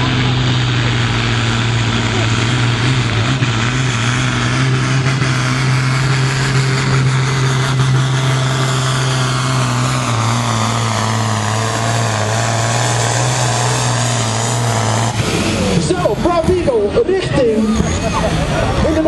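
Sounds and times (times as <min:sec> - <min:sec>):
tractor engine at high idle: 0:00.0 - 0:19.0.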